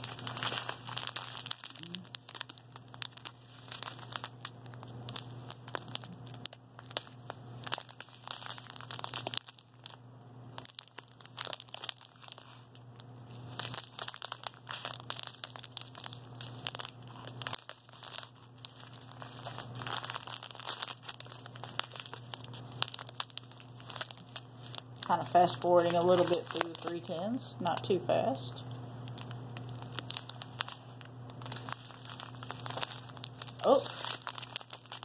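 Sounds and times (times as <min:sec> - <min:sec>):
plastic bags crinkling: 0:00.0 - 0:28.4, 0:29.0 - 0:35.0.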